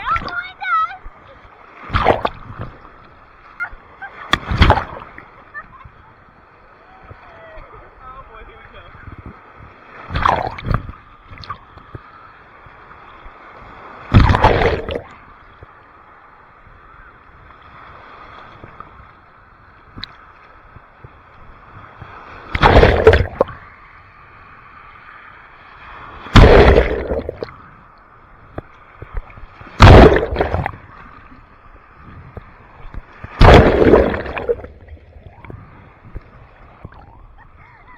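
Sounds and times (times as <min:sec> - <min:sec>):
ocean waves washing onto beach: 0:00.0 - 0:37.9.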